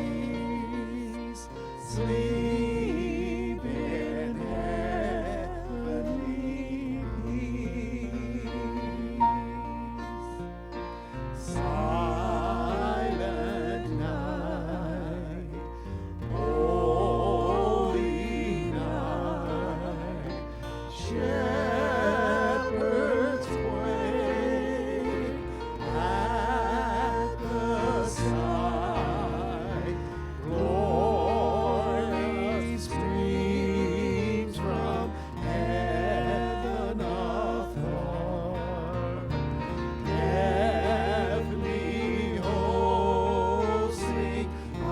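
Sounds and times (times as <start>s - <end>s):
sustained low accompaniment: 0.0s - 44.9s
voices singing a hymn: 0.0s - 44.9s.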